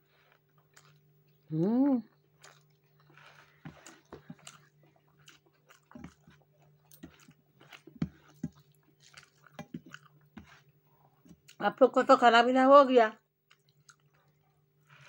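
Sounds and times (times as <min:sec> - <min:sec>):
faint steady hum: 0:00.0 - 0:15.0
person chewing: 0:00.1 - 0:11.6, 0:13.5 - 0:15.0.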